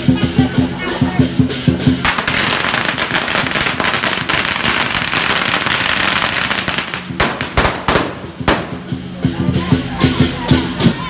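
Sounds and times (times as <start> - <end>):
firecrackers crackling and banging: 0.0 - 11.0.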